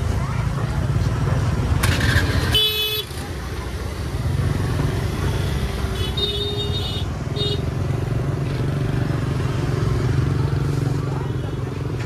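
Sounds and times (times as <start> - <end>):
motorbike engines in traffic: 0.0 - 12.0.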